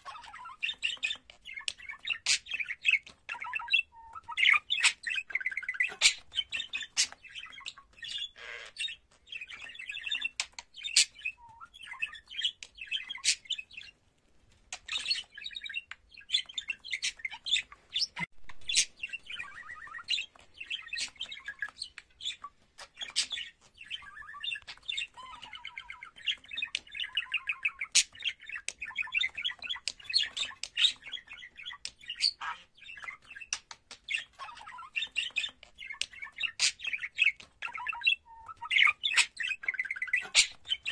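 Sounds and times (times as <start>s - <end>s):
budgerigar warbling and chattering: 0.0s - 14.0s, 14.7s - 40.9s.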